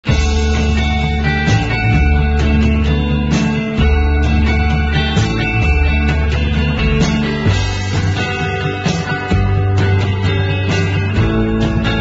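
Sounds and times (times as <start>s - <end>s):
rock music with guitar and bass: 0.0s - 12.0s.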